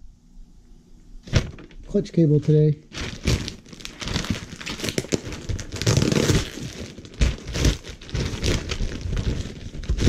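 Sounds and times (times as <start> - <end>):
packaging crinkling and rustling: 1.2 - 10.0.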